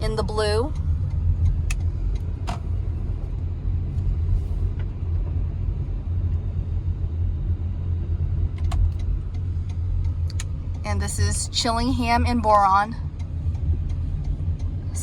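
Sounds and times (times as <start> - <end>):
car interior driving rumble: 0.0 - 15.0.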